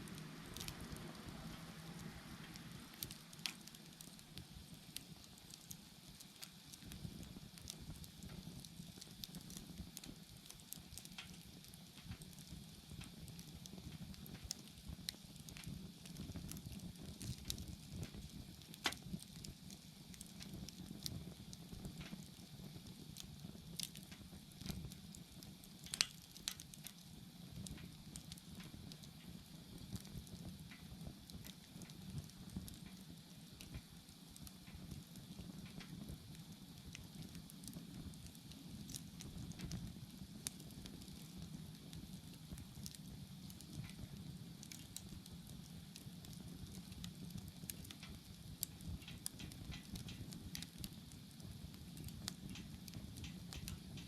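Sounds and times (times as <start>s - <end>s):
bonfire crackling and popping: 0.0s - 54.0s
low rush of flame: 0.0s - 54.0s.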